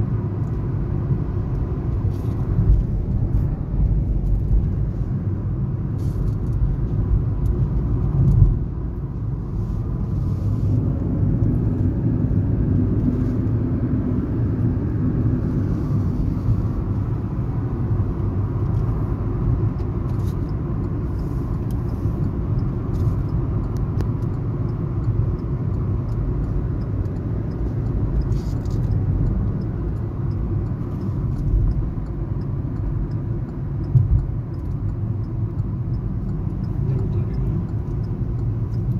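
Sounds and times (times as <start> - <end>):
car interior road rumble: 0.0 - 38.9.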